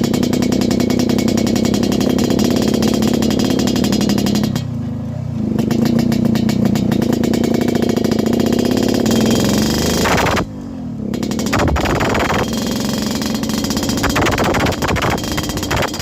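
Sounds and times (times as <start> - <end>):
two-stroke motorcycle engine: 0.0 - 16.0.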